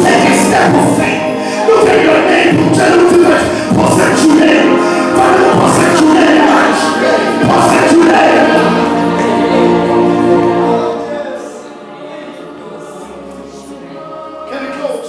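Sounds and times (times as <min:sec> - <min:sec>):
choir singing a worship song: 0:00.0 - 0:15.0.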